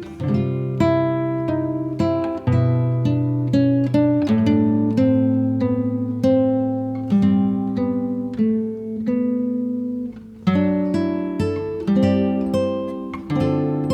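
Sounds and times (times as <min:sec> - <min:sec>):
strummed chords music: 0:00.0 - 0:13.9.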